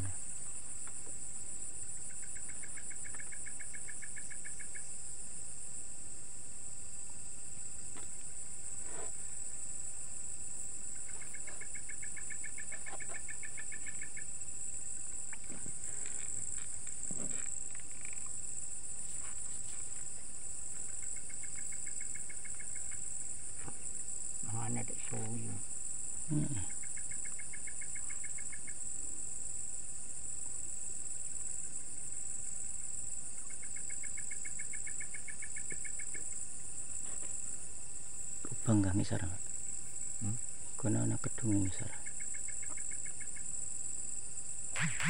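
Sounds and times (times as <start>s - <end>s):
crickets trilling: 0.0s - 45.0s
low rapidly pulsing insect trill: 0.0s - 45.0s.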